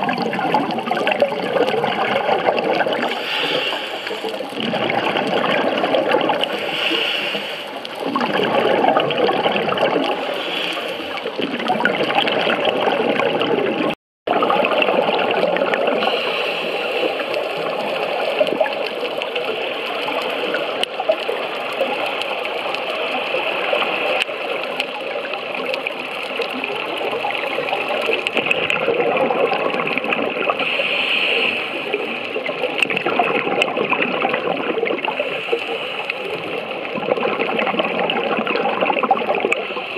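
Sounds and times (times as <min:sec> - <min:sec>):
underwater breath bubbling: 0:00.0 - 0:39.9.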